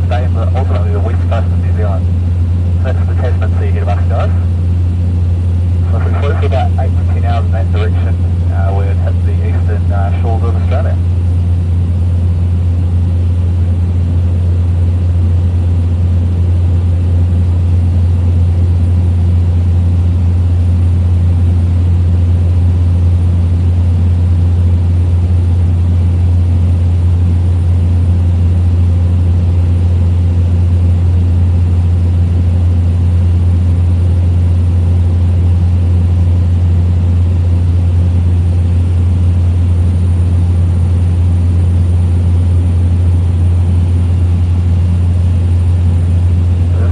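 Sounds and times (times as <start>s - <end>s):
propeller engine droning: 0.0s - 46.9s.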